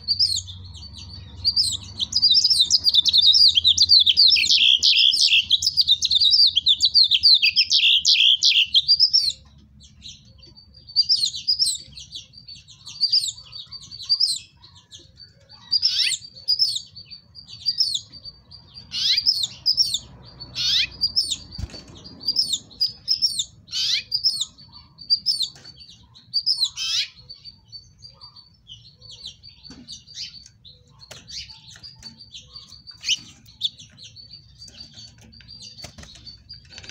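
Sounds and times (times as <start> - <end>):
finch chirps: 0.0 - 36.9.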